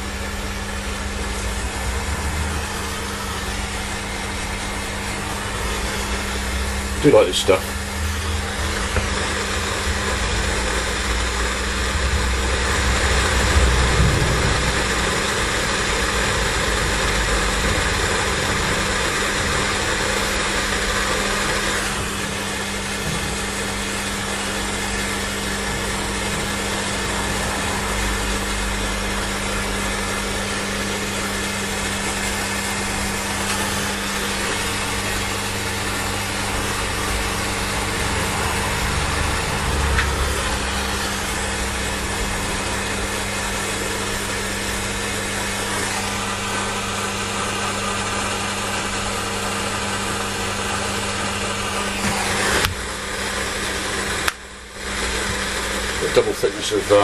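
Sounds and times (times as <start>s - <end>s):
heat gun fan blowing: 0.0s - 57.0s.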